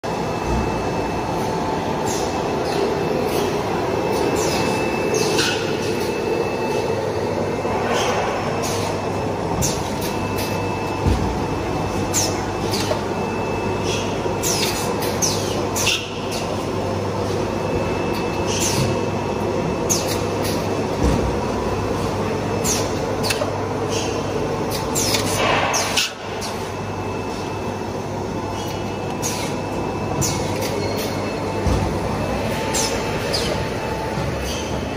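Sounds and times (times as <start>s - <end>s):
machine mechanical hum: 0.0s - 34.9s.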